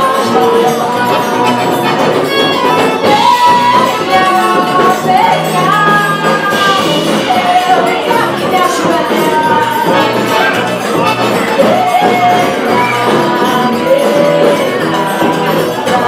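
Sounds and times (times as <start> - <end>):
accordion: 0.0 - 16.0
drum kit: 0.0 - 16.0
electric bass: 0.0 - 16.0
hand percussion: 0.0 - 16.0
woman singing: 0.0 - 16.0.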